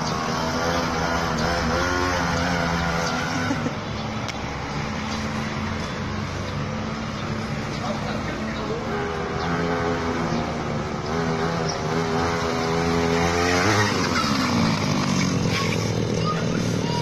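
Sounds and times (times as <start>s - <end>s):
small motorbike engine revving: 0.0s - 17.0s.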